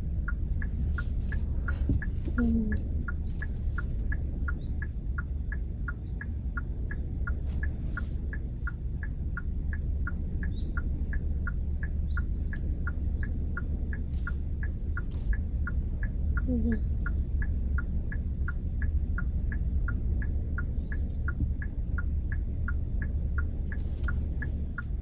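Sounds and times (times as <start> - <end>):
engine and road hum: 0.0 - 25.0
turn signal ticking: 0.0 - 25.0.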